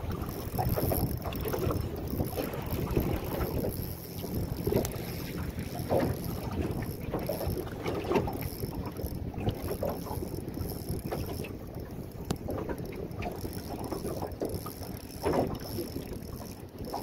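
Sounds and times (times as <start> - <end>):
water slapping against boat: 0.0 - 17.0
wind buffeting microphone: 0.0 - 17.0.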